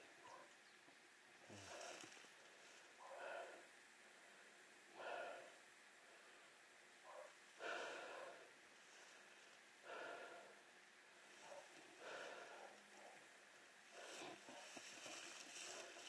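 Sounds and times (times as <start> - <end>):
heavy breathing: 1.5 - 16.0.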